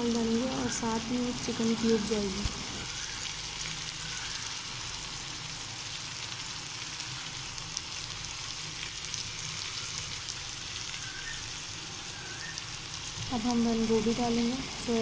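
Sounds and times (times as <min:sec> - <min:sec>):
vegetables frying in oil: 0:00.0 - 0:15.0.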